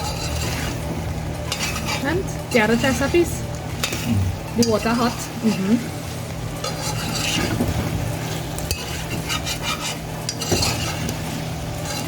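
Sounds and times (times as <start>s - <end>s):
spoon scraping pot: 0.0s - 0.9s, 1.5s - 5.9s, 6.6s - 12.0s
chicken sizzling in a pot: 0.0s - 12.0s.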